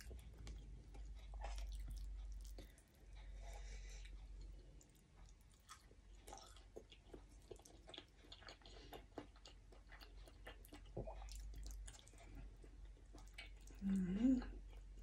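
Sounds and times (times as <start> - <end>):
mouth chewing: 0.0 - 15.0.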